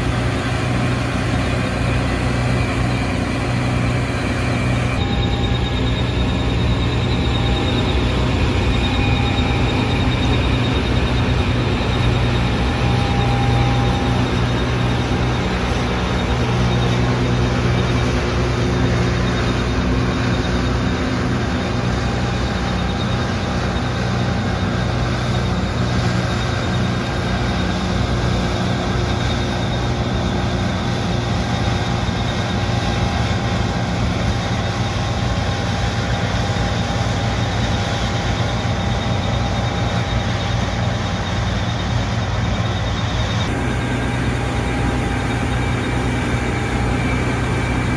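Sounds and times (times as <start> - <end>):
combine harvester running: 0.0 - 47.9.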